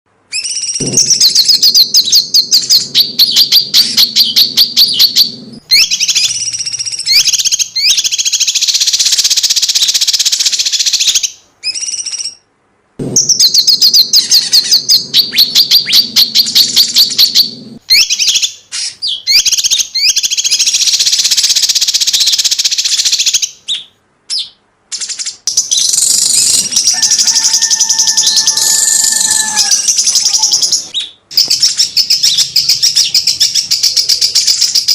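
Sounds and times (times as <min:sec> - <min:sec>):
songbird rattling song: 0:00.3 - 0:12.4, 0:13.0 - 0:34.9.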